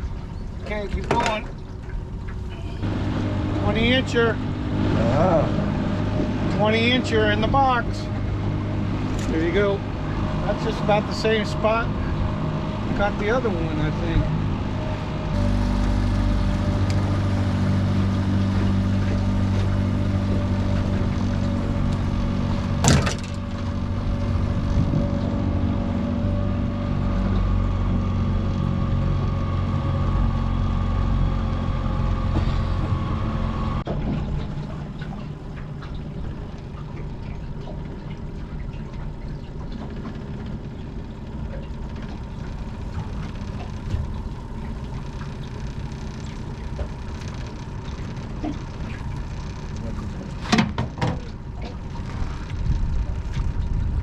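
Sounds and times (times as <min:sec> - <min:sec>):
boat motor running: 0:00.0 - 0:54.0
rough hum: 0:00.0 - 0:54.0
water noise: 0:00.0 - 0:54.0.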